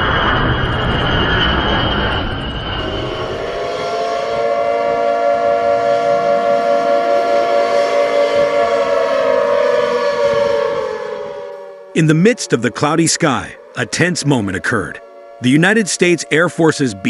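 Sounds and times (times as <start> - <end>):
loud horn-like tone: 2.2 - 17.0.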